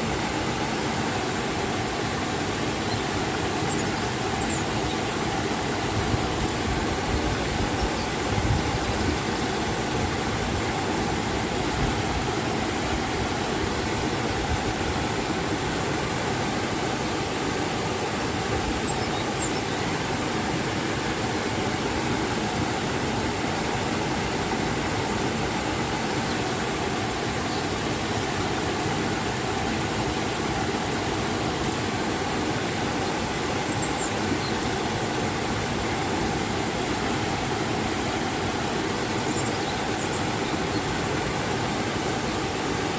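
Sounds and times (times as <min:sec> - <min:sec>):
waterfall and river water rushing: 0:00.0 - 0:42.9.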